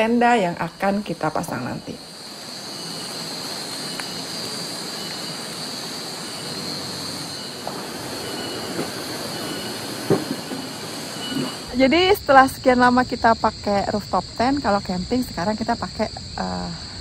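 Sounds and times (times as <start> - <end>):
even hiss: 0.0 - 17.0
high-pitched insect drone: 0.0 - 17.0.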